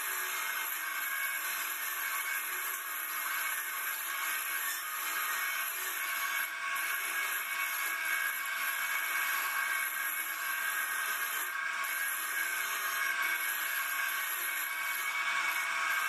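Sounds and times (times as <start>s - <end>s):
lathe machine whine: 0.0s - 16.0s.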